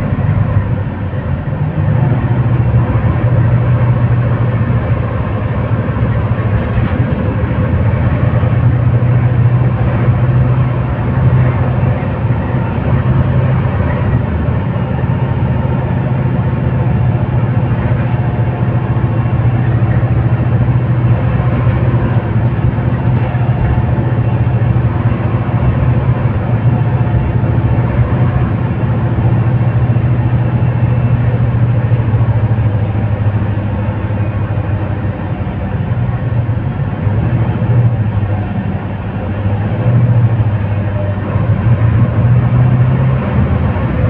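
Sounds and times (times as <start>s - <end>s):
bus engine drone: 0.0s - 44.0s
road noise: 0.0s - 44.0s.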